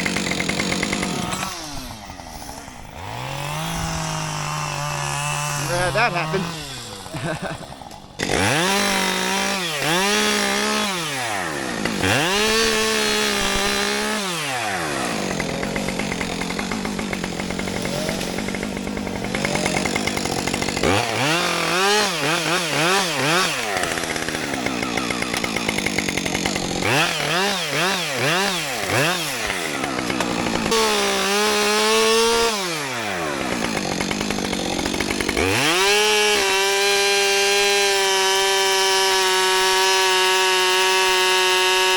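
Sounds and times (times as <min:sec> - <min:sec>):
chainsaw revving and cutting wood: 0:00.0 - 0:41.9.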